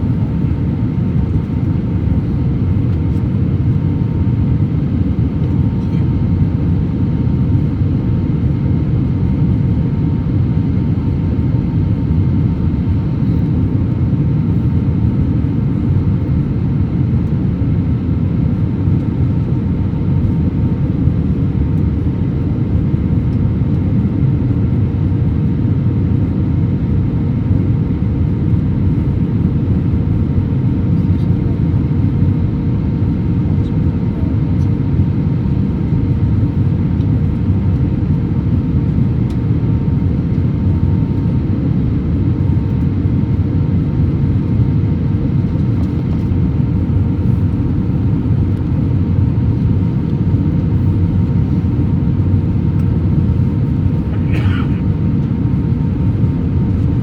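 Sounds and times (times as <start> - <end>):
airliner cabin drone: 0.0 - 57.0
faint tonal hum: 0.0 - 57.0.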